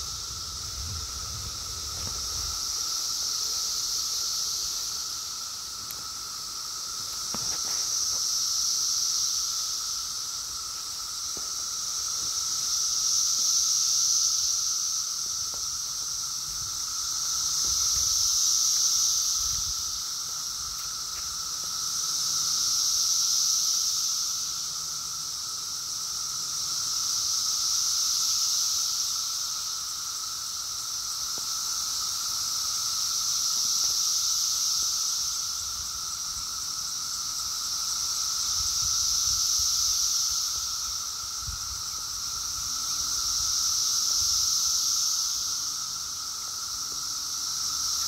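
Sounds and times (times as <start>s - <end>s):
cicadas droning: 0.0s - 48.0s.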